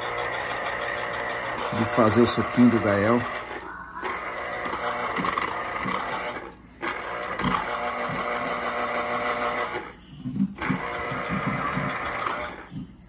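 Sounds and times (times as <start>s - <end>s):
juicer motor whirring: 0.0s - 13.0s.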